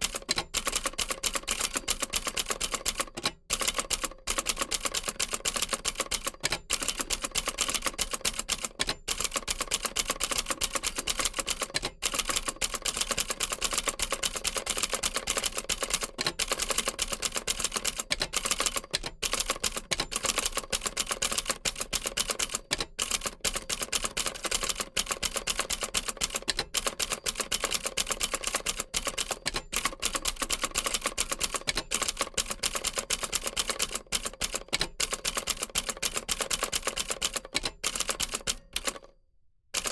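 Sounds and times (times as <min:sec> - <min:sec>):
manual typewriter typing: 0:00.0 - 0:39.1.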